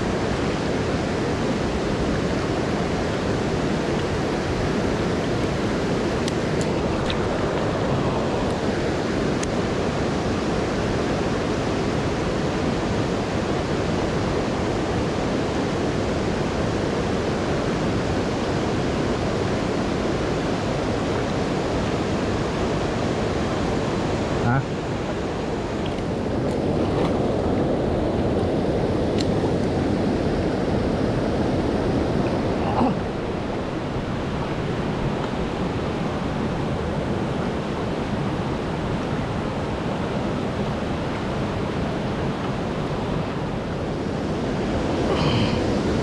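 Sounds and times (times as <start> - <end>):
fast river water rushing: 0.0 - 46.0.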